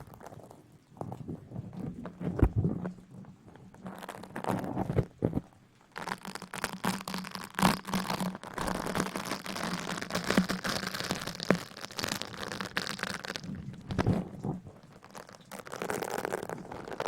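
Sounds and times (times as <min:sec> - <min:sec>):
close crinkling and scratching: 0:00.0 - 0:17.0.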